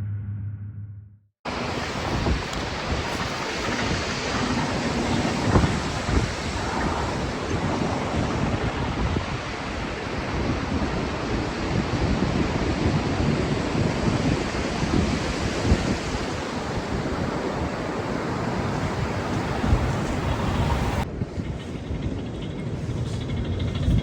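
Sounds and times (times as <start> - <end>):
ocean surf washing on beach: 1.5 - 21.0
wind buffeting microphone: 1.5 - 24.0.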